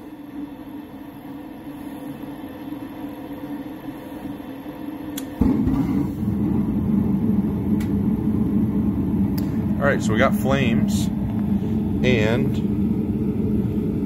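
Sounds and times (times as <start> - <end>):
furnace fan humming: 0.0 - 14.0
low rumble of burner flame: 0.0 - 14.0.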